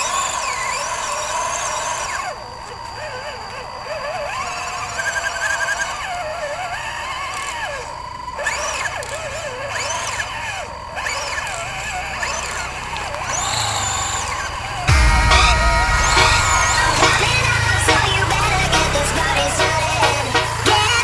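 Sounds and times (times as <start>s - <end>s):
toy car electric motor whining: 0.0s - 14.9s, 16.6s - 21.0s.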